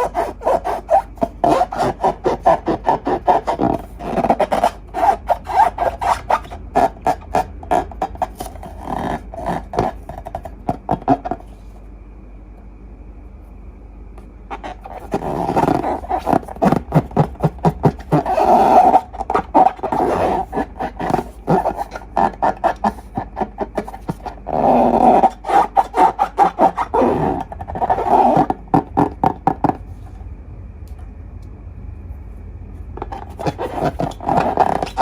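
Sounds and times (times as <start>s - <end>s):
rubber balloons squeaking: 0.0s - 11.6s, 14.5s - 29.9s, 33.0s - 35.0s.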